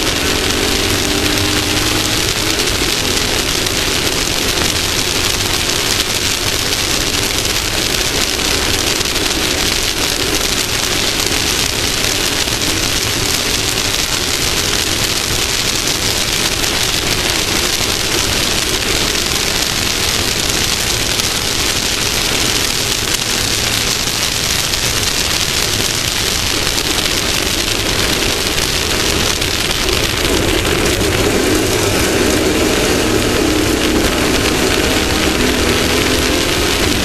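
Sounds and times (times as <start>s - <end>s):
engine hum: 0.0s - 37.0s
rough ground noise: 0.0s - 37.0s.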